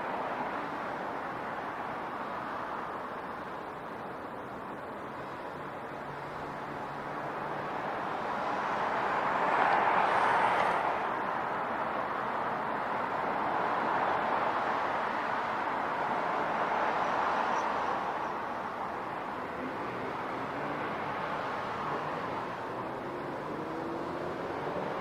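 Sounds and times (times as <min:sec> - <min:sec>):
street traffic passing: 0:00.0 - 0:25.0.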